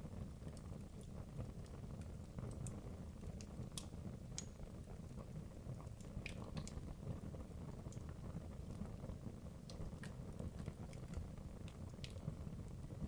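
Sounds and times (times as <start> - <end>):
low rumble of fire: 0.0 - 13.0
logs crackling and popping: 0.3 - 13.0.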